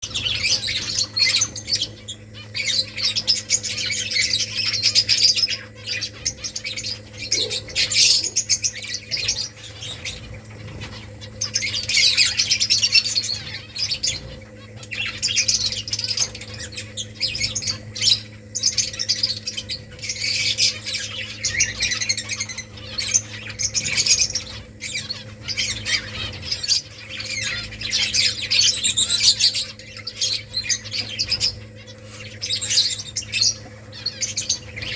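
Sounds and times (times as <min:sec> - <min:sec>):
finches chirping: 0:00.0 - 0:34.9
steady low hum: 0:00.0 - 0:34.9.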